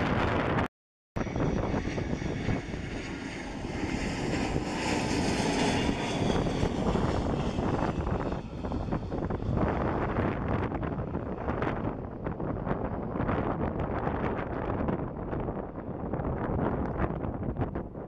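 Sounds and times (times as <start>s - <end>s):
jet engine roar: 0.0s - 17.7s
wind rumble on microphone: 0.0s - 18.0s.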